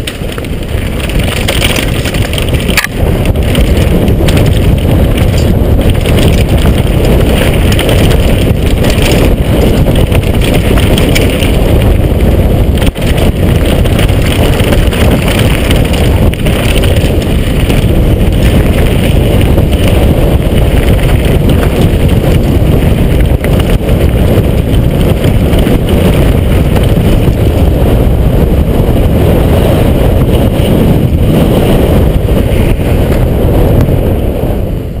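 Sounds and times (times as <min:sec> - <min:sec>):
mountain bike rattling over trail: 0:00.0 - 0:34.6
wind buffeting microphone: 0:00.0 - 0:35.0.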